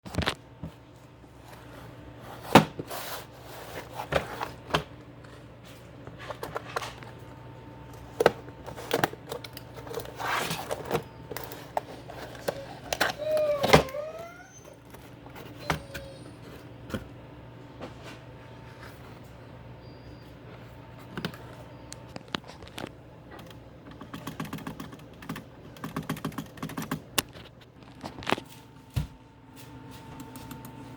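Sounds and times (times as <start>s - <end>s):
low steady hum: 0.1s - 30.9s.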